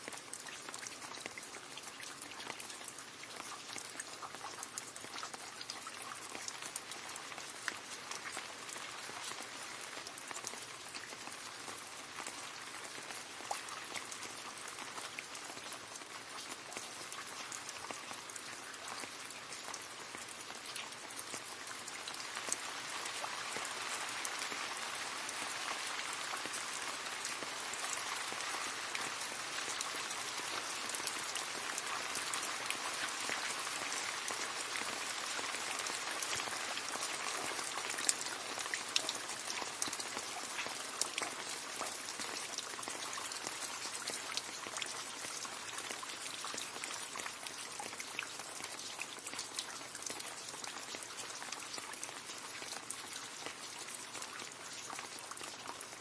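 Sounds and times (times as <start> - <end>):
rain splashing into puddle: 0.0 - 56.0.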